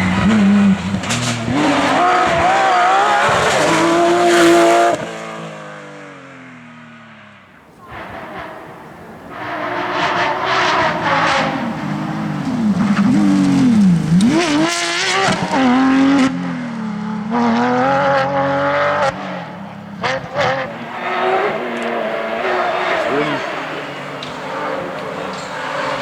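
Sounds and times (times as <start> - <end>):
car engine revving hard: 0.0 - 5.9, 7.9 - 26.0.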